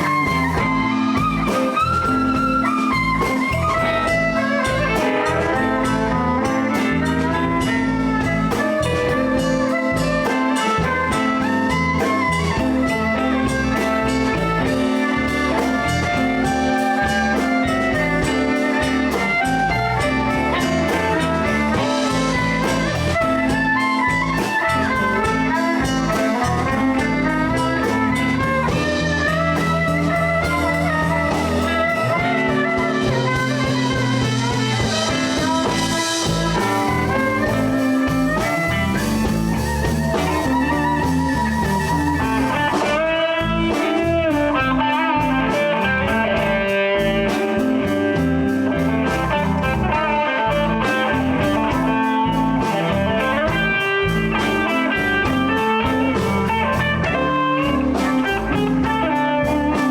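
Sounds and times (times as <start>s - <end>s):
blues band playing: 0.0s - 59.9s
lead guitar bending notes: 0.0s - 59.9s.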